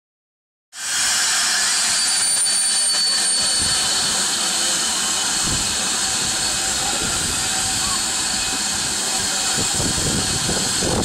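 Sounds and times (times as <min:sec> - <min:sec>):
steam hissing from locomotive: 0:00.8 - 0:11.0.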